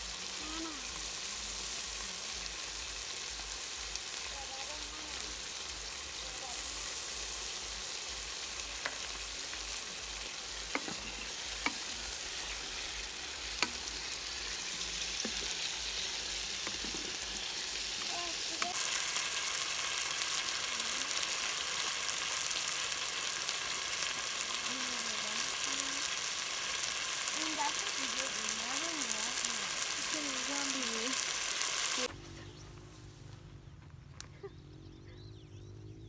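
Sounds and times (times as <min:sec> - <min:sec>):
food sizzling in a pan: 0:00.0 - 0:32.2.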